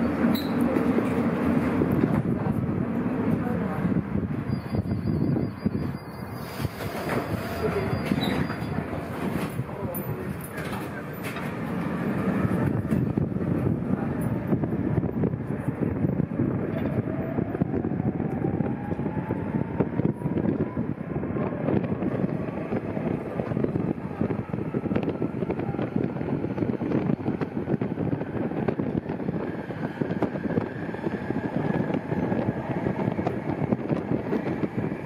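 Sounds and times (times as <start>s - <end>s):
tram wheels rumbling on track: 0.0s - 35.0s.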